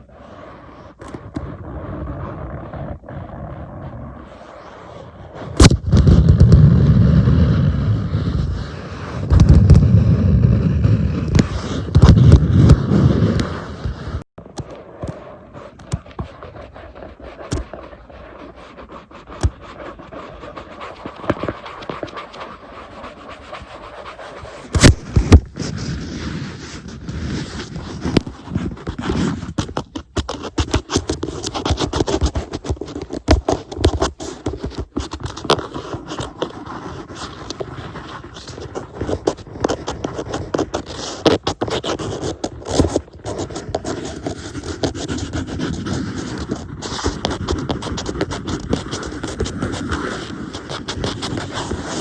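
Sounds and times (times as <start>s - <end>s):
rough rubbing on tablet: 0.0s - 52.0s
taps and scratches on tablet: 0.9s - 2.9s, 5.4s - 52.0s.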